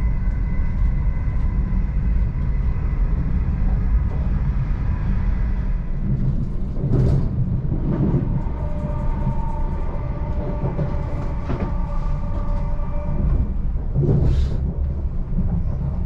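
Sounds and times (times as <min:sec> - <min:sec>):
train running low rumble: 0:00.0 - 0:16.0.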